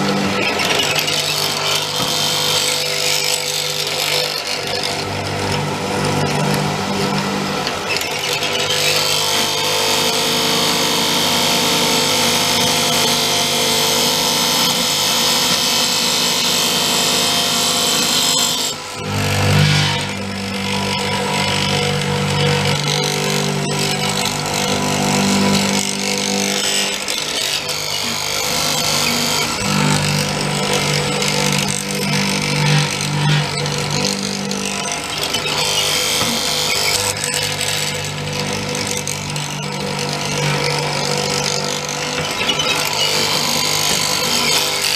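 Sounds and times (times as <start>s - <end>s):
mortiser motor hum: 0.0s - 44.9s.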